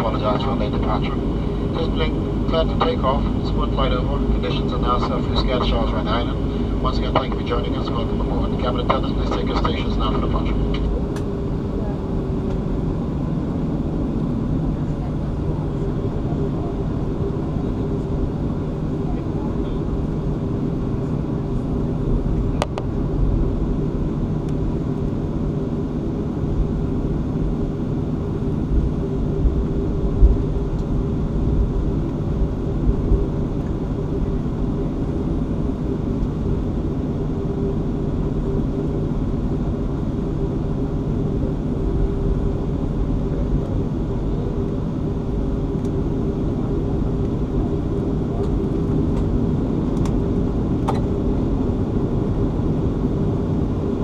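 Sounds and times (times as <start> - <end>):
jet engine hum in cabin: 0.0 - 54.0.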